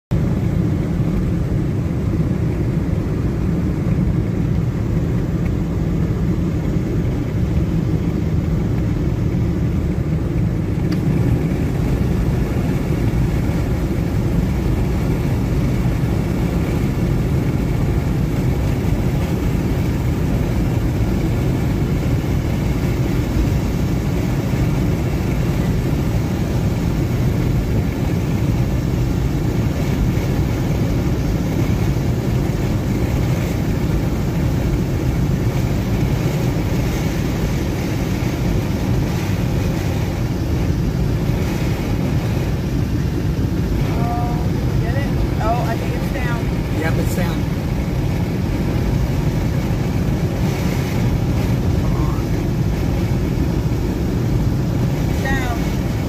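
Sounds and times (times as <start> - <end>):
car road and engine noise: 0.1 - 56.0.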